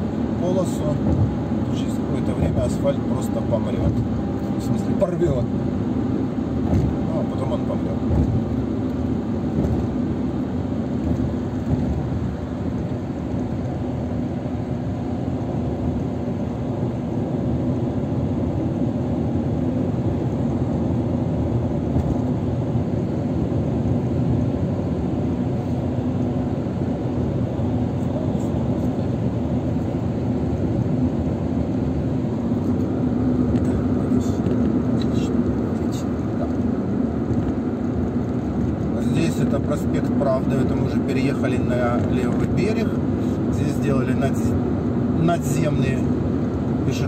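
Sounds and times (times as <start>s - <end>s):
low engine hum: 0.0s - 47.0s.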